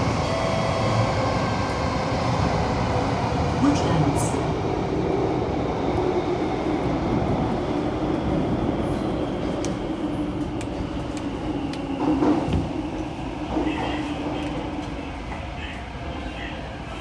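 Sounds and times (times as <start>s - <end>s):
metro train wheels rumbling: 0.0s - 17.0s.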